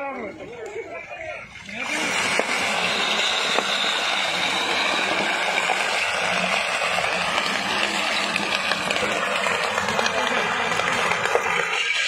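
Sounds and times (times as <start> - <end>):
road roller running: 0.0 - 12.0.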